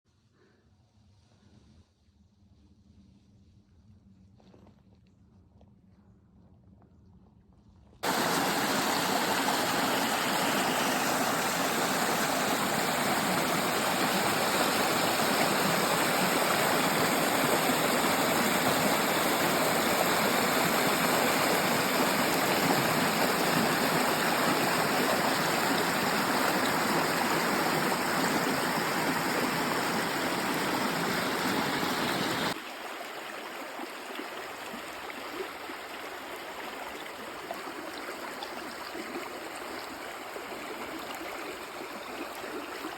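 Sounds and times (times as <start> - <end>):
babbling stream: 8.0 - 42.9.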